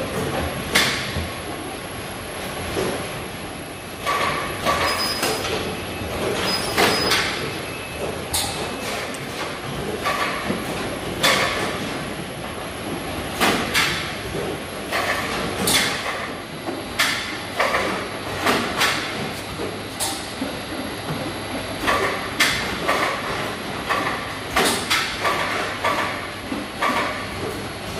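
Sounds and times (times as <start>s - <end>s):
boxes clattering on roller conveyor: 0.0s - 27.9s
steady background hum: 0.0s - 27.9s.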